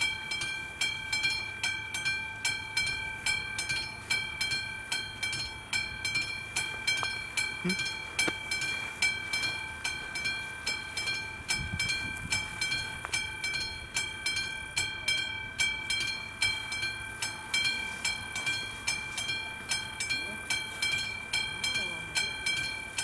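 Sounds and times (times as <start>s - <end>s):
railroad crossing bell ringing: 0.0s - 23.0s.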